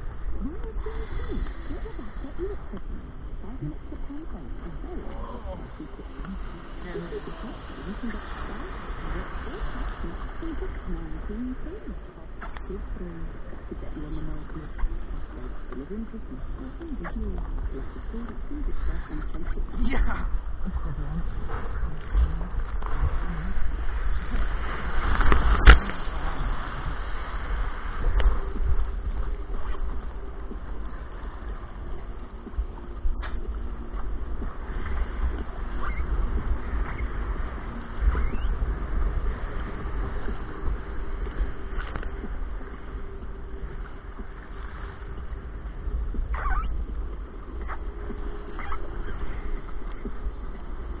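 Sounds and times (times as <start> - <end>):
sea surf: 0.0 - 51.0
water sloshing from paddling: 0.0 - 51.0
wind rumble on microphone: 0.0 - 51.0.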